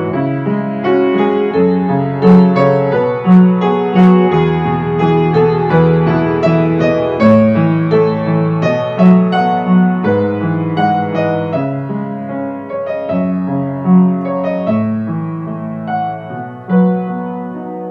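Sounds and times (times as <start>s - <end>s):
slow piano music: 0.0s - 17.9s.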